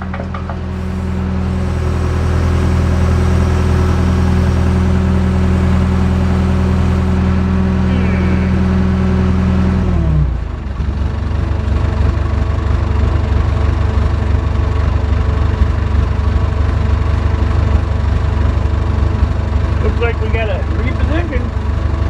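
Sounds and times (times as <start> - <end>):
diesel engine revving and idling: 0.0 - 22.0.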